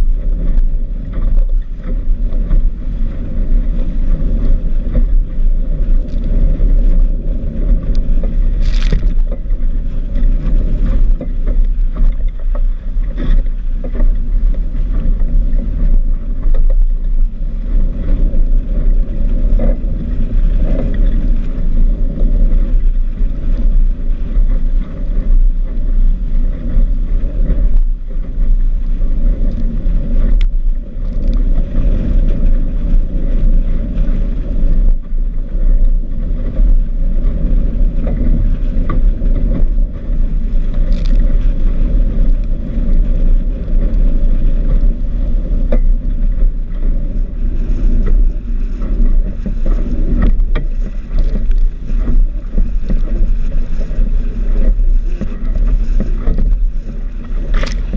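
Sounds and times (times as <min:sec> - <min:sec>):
water splashing along hull: 0:00.0 - 0:57.9
wind buffeting microphone: 0:00.0 - 0:57.9.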